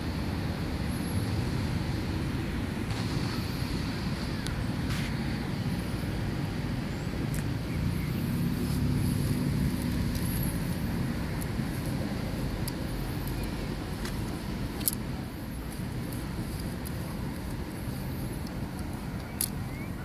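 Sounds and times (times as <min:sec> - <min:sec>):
low engine hum: 0:00.0 - 0:20.0
road traffic rumble: 0:00.0 - 0:20.0.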